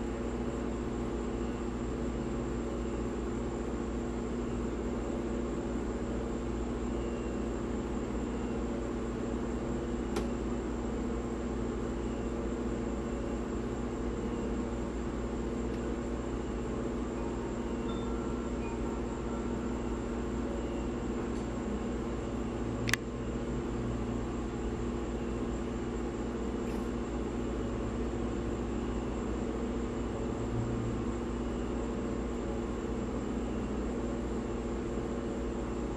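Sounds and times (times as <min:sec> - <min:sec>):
steady machine hum: 0:00.0 - 0:35.9.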